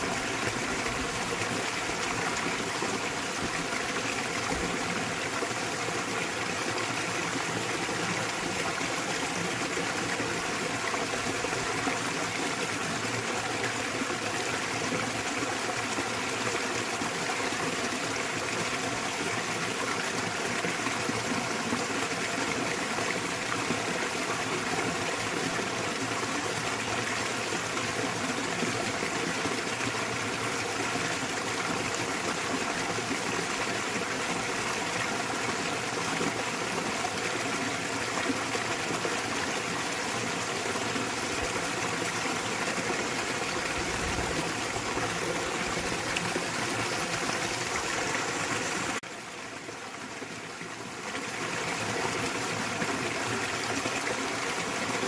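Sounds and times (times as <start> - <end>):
waterfall rushing into stream: 0.0 - 55.0.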